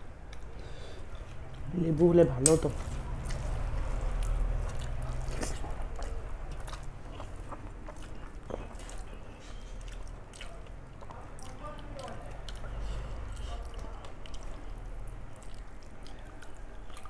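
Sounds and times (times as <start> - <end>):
close chewing and wet mouth sounds: 0.1 - 17.0
soft squishing: 0.2 - 17.0.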